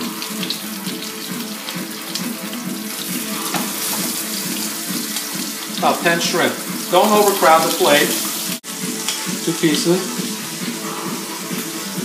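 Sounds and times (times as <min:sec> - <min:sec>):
shrimp sizzling in a frying pan: 0:00.0 - 0:12.0.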